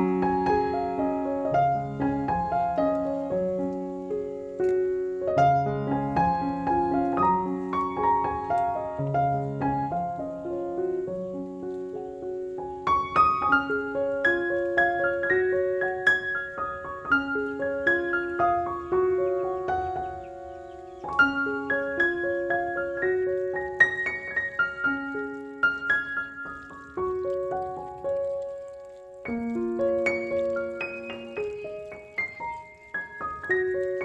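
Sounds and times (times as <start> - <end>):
gentle piano music: 0.0 - 34.0.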